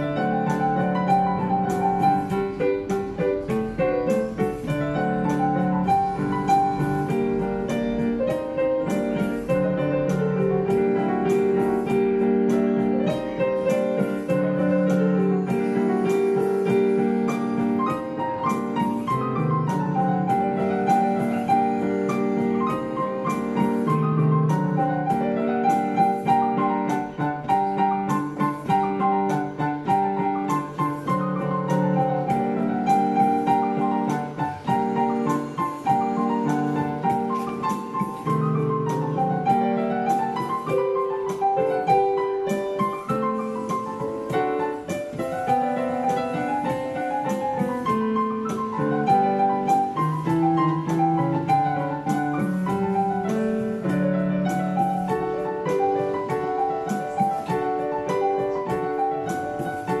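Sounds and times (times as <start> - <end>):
digital piano melody: 0.0 - 60.0.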